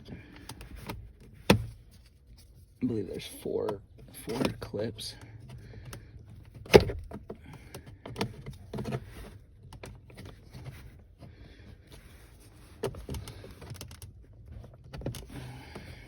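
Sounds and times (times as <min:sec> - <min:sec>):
soft scraping and handling noise: 0:00.0 - 0:16.0.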